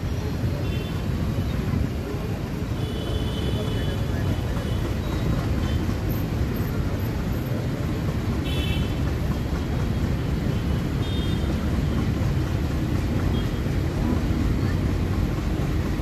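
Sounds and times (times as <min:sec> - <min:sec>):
diesel locomotive engine rumbling: 0:00.0 - 0:16.0.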